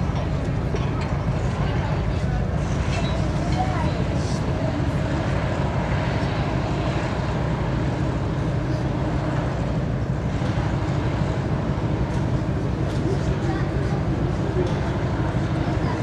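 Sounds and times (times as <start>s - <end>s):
ferry machinery rumble: 0.0s - 16.0s.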